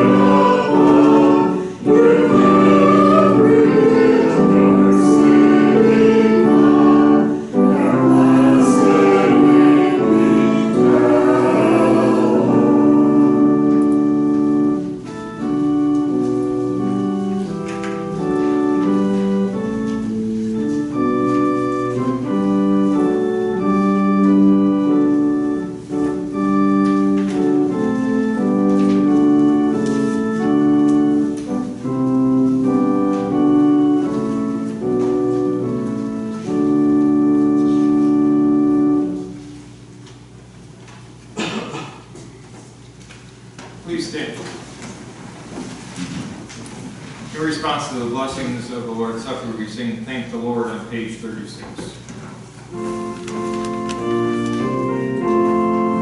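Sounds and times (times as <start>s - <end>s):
church organ playing chords: 0.0s - 42.2s, 52.5s - 56.0s.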